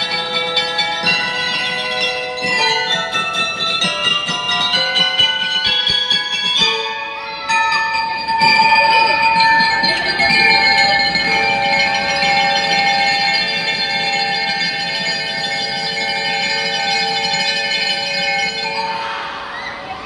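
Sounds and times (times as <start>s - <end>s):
bell lyres ringing a chord: 0.0s - 20.0s.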